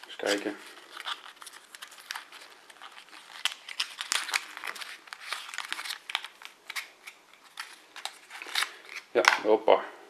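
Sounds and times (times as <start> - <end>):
cardboard packaging crackling: 0.0 - 9.2.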